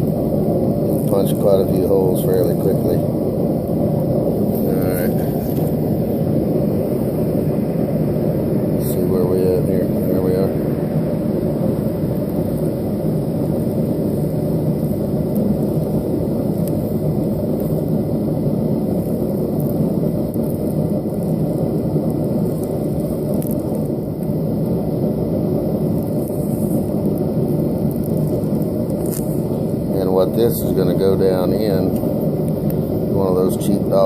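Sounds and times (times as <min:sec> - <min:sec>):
forge roaring steadily: 0:00.0 - 0:34.0.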